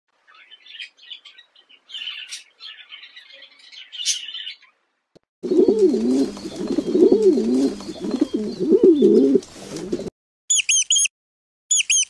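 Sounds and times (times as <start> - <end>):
birds chirping: 0.2 - 4.8, 5.4 - 11.1.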